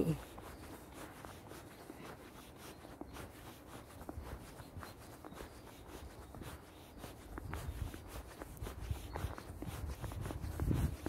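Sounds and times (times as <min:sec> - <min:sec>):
footsteps crunching on snow: 0:00.0 - 0:11.0.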